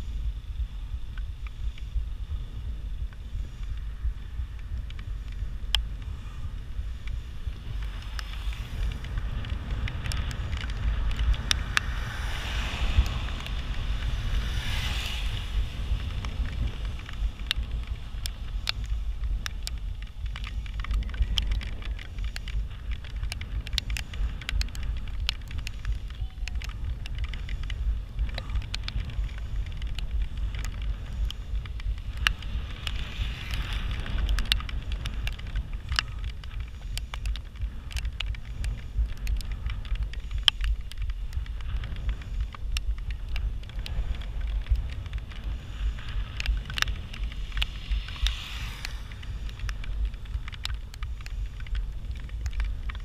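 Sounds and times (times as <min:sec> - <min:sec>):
bicycle clicks and crackles: 0:00.0 - 0:53.0
wind buffeting microphone: 0:00.0 - 0:53.0.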